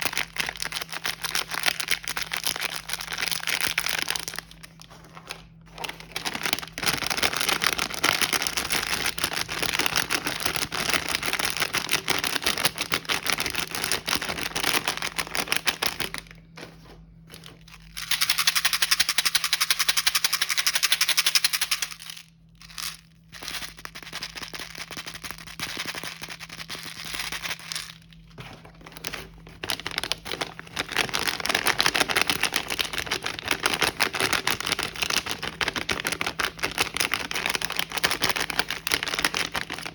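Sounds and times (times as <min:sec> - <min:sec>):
faint steady hum: 0:00.0 - 0:39.9
plastic wrappers crinkling: 0:00.0 - 0:39.9.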